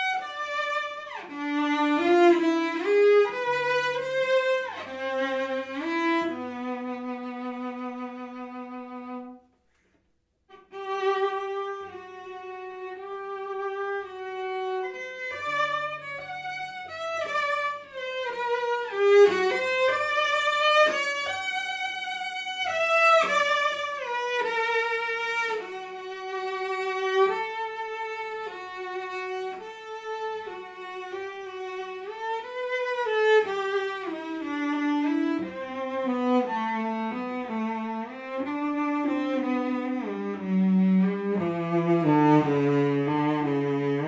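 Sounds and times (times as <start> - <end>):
bowed cello melody: 0.0 - 9.5, 10.4 - 44.0.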